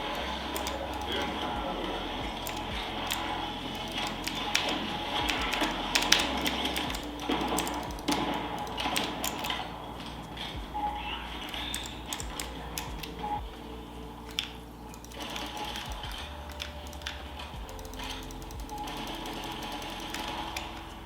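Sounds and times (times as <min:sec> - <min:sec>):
mechanical keyboard typing: 0:00.0 - 0:21.0.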